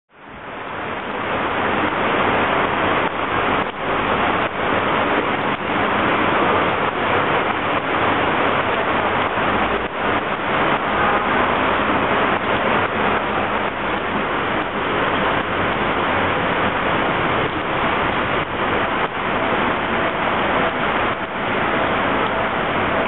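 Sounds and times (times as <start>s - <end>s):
heavy rain on pavement: 0.1s - 23.0s.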